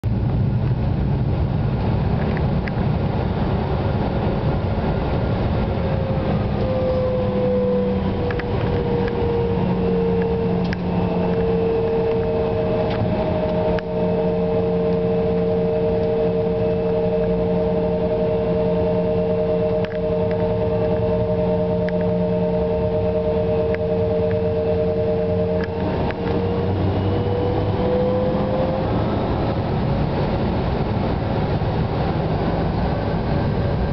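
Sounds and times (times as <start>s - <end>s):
jet engines rumbling and whining: 0.0s - 33.9s.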